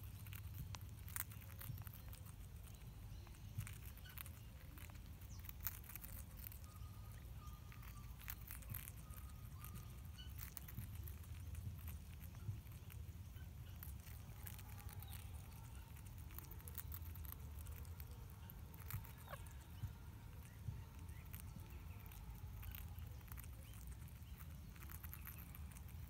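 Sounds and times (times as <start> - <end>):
birds pecking small clicks: 0.0 - 26.0
low steady rumble: 0.0 - 26.0.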